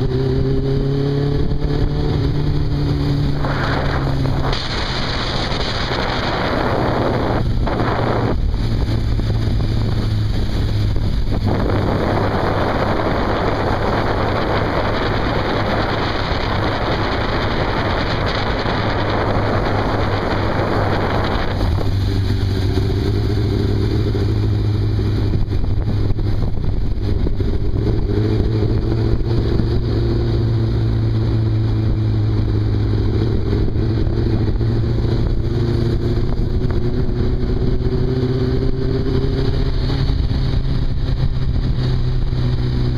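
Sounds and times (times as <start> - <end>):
motorcycle engines droning: 0.0 - 42.9
wind rushing over microphone: 0.0 - 42.9.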